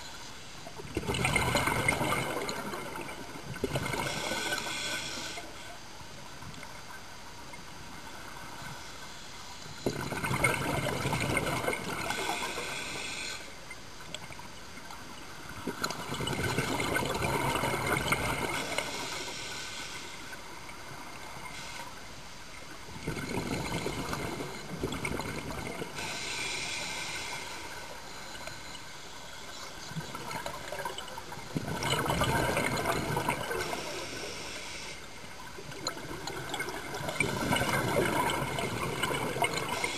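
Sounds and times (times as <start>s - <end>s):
underwater breathing bubbles: 0.8s - 5.6s, 9.6s - 13.6s, 15.6s - 22.0s, 22.9s - 39.9s.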